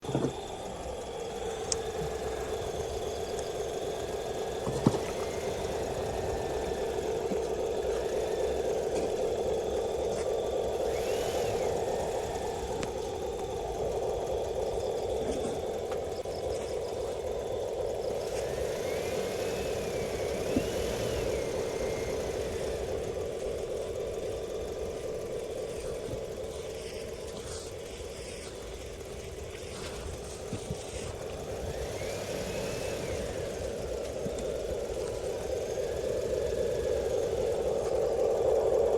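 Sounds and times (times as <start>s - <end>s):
electric motor whines: 0.0s - 38.9s
steady hum: 0.0s - 38.9s.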